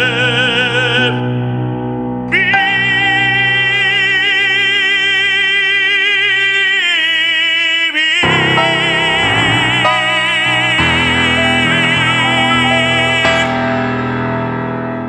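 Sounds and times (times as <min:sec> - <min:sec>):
male operatic voice singing: 0:00.0 - 0:01.6, 0:02.3 - 0:14.0.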